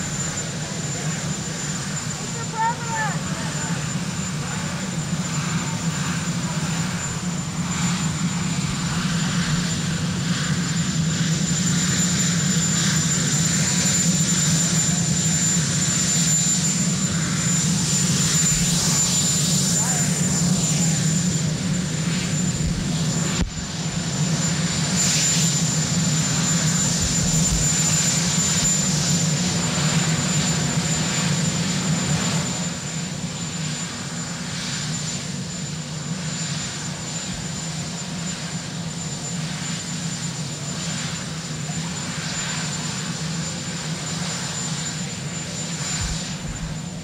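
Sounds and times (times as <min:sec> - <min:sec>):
helicopter engines droning: 0:00.0 - 0:47.0.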